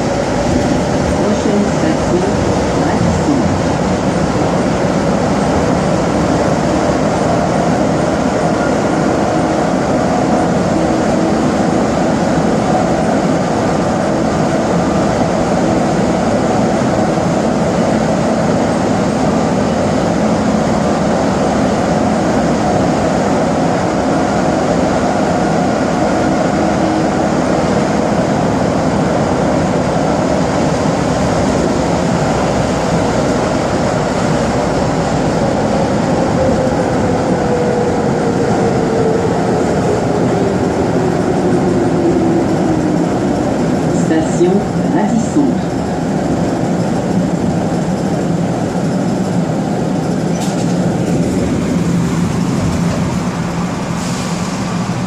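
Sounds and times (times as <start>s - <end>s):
traction equipment hum: 0.0s - 55.0s
train tyres rumbling on track: 0.0s - 55.0s.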